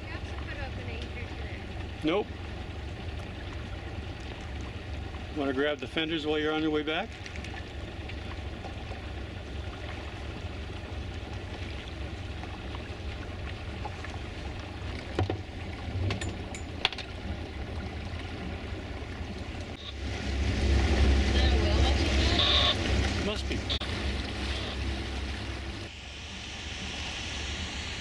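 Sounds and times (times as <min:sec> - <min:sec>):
boat engine low hum: 0:00.0 - 0:28.0
water noise: 0:00.0 - 0:28.0
wind: 0:00.0 - 0:28.0.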